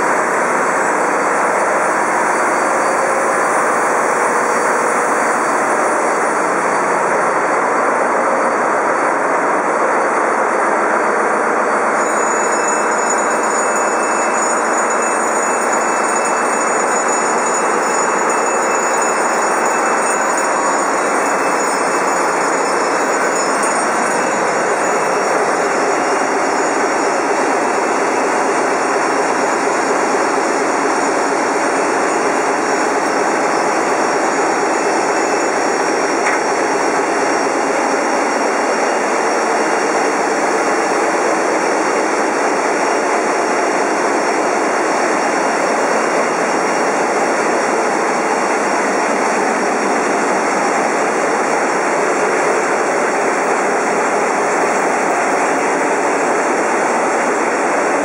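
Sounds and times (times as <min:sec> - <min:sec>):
ship diesel engines running: 0:00.0 - 0:58.0.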